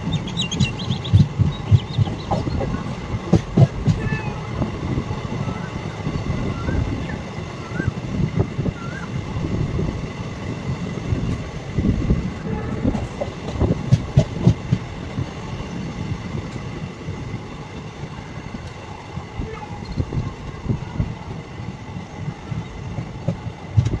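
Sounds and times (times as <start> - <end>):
train knocks and clacks: 0.0 - 24.0
train wheels rumbling on rails: 0.0 - 24.0.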